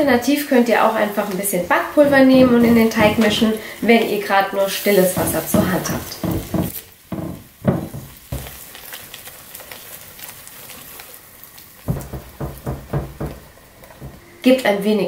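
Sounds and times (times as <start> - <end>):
sparkling water fizzing in batter: 0.0 - 14.6.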